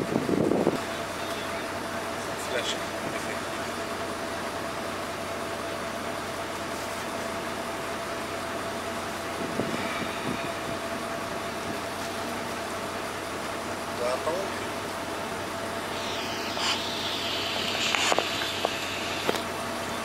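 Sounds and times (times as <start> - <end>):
vehicles and machinery idling: 0.0 - 20.0.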